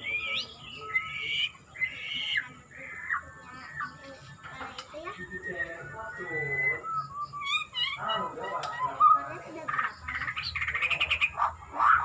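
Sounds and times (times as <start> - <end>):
songbird singing whistles and chatter: 0.0 - 12.0.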